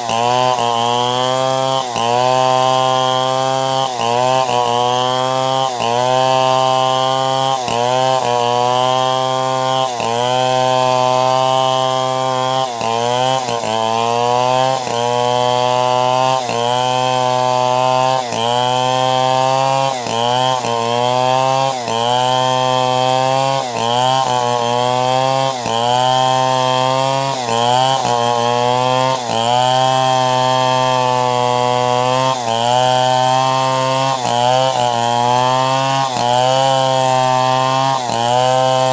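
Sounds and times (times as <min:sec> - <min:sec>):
chainsaw sawing timber: 0:00.0 - 0:38.9.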